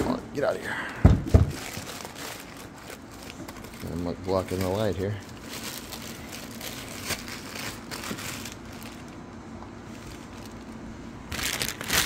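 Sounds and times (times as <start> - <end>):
low steady hum: 0.0 - 12.0
plastic bag crinkling: 1.5 - 9.2, 9.8 - 12.0.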